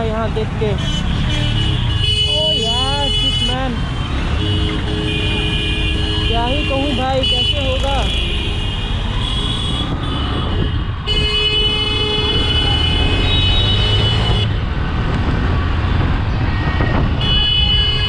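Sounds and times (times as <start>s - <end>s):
vehicle horns honking: 0.7s - 14.6s, 17.2s - 18.0s.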